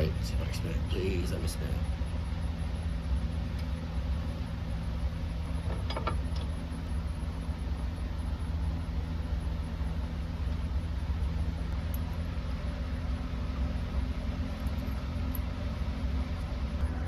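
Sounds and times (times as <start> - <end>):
engine idling hum: 0.0 - 17.0.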